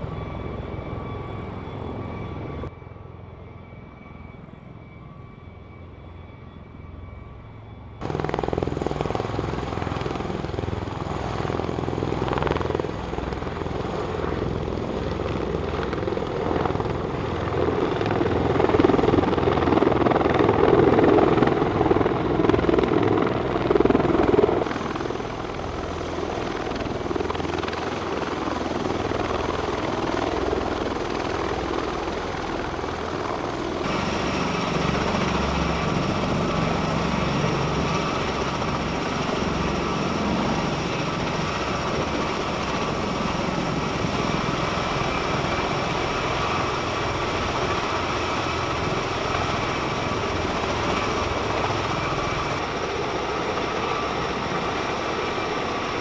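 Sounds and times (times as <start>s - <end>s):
tiltrotor aircraft rotor noise: 0.0s - 56.0s.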